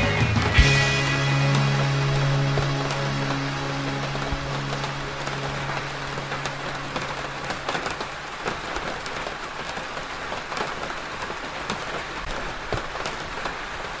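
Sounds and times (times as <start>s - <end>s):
rain on hard surface: 0.0s - 14.0s
raindrops ticking: 0.0s - 14.0s.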